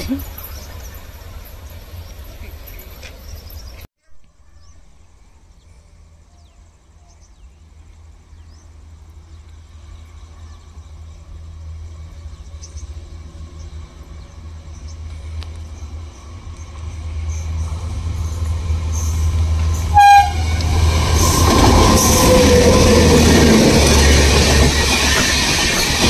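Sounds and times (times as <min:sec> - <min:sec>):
distant train rumble: 0:00.0 - 0:26.0.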